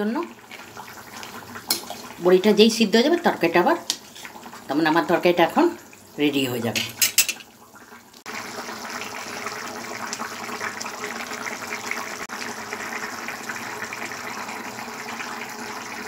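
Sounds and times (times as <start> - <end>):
curry bubbling with crackles: 0.0 - 6.6, 7.4 - 16.0.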